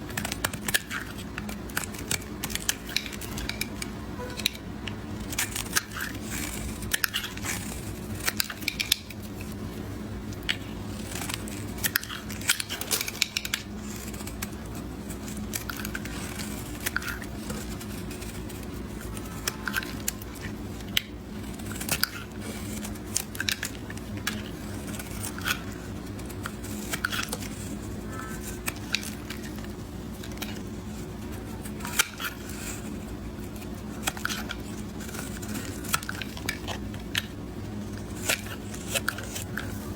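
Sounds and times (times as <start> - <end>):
knife cutting soap: 0.0 - 4.6, 5.2 - 39.9
steady low hum: 0.0 - 39.9.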